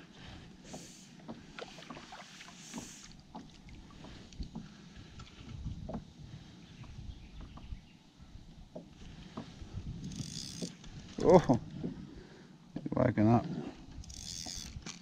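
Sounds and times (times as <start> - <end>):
water lapping at hull: 0.0 - 14.8.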